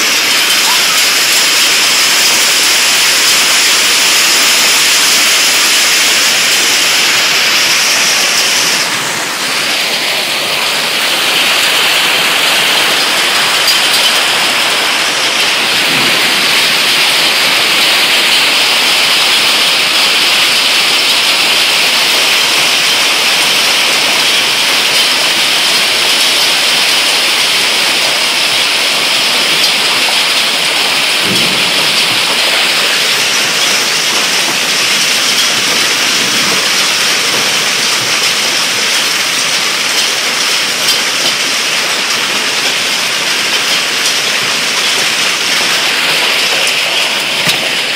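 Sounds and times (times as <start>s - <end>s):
hail and heavy rain: 0.0s - 47.9s.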